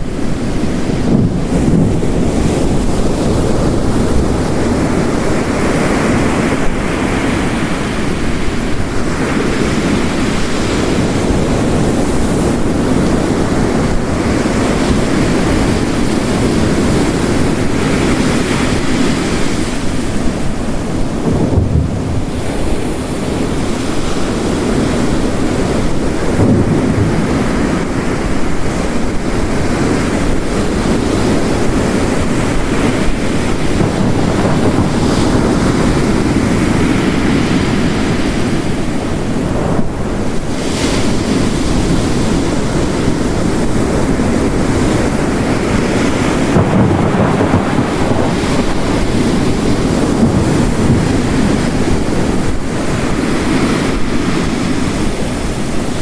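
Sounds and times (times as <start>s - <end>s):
heavy rain: 0.0s - 56.0s
waves crashing on rocks: 0.0s - 56.0s.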